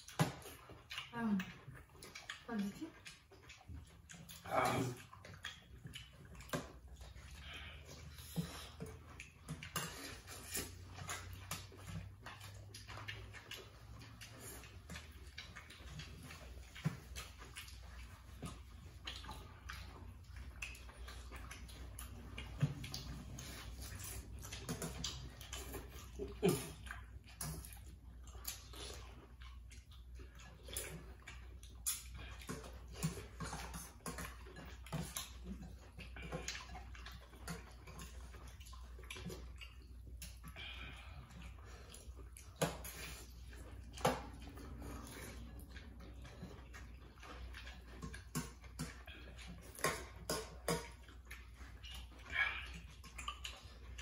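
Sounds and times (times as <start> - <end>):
slurping and chewing: 0.0 - 54.0.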